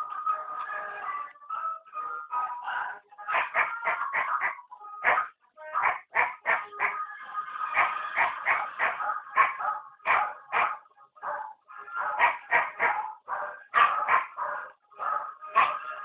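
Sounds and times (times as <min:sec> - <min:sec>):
dogs barking and yipping: 0:00.0 - 0:16.0.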